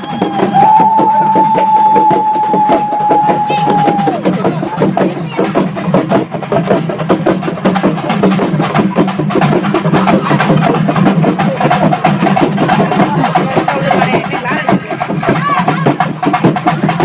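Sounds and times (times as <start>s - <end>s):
drums played fast: 0.0s - 17.0s.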